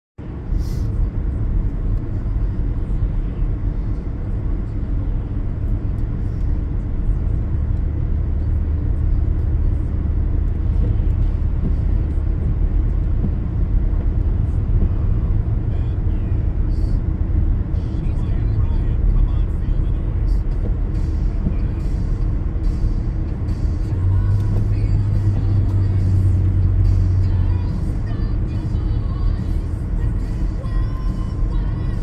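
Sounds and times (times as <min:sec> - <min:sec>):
car driving on wet road: 0:00.2 - 0:32.0.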